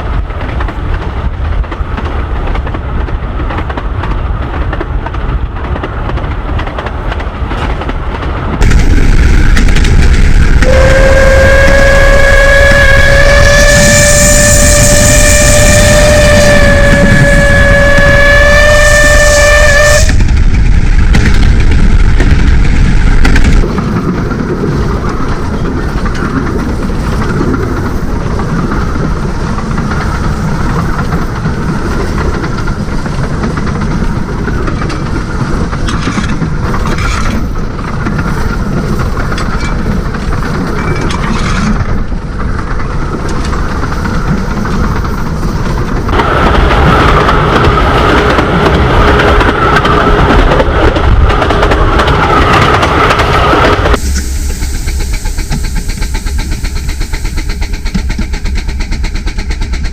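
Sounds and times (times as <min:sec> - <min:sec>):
clickety-clack over rail joints: 0:00.0 - 0:54.0, 0:54.8 - 0:59.9
train wheels rumbling: 0:00.0 - 0:59.9.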